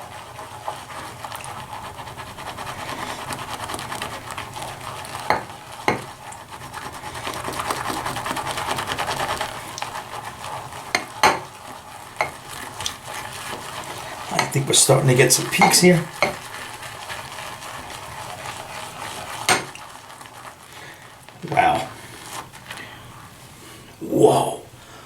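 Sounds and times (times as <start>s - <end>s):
brush swishing lather in bowl: 0.0s - 24.6s.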